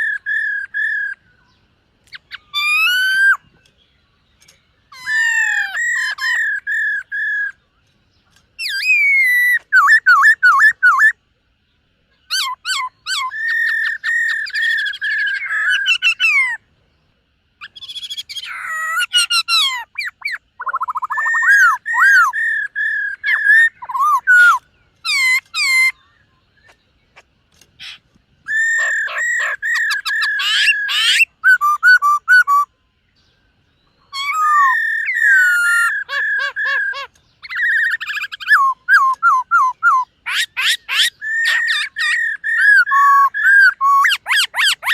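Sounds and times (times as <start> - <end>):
bird singing whistled phrases: 0.0 - 3.7, 4.4 - 7.6, 8.6 - 11.2, 12.2 - 16.6, 17.6 - 26.8, 27.8 - 32.7, 33.8 - 44.9.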